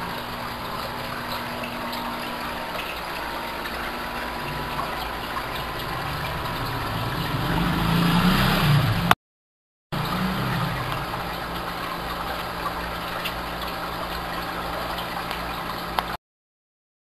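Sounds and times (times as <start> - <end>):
air bubbling in fish tank: 0.0 - 9.2, 10.0 - 16.2
aquarium air pumps humming: 0.0 - 9.2, 9.9 - 16.2.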